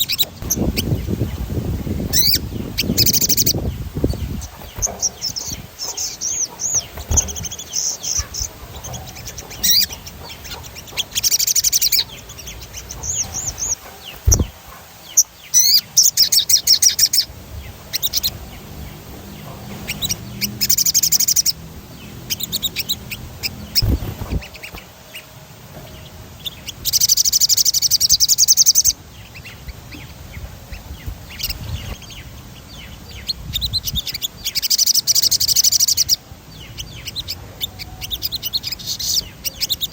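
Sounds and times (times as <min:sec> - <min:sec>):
bird chirps: 0:00.0 - 0:39.9
songbird trilling: 0:00.0 - 0:39.9.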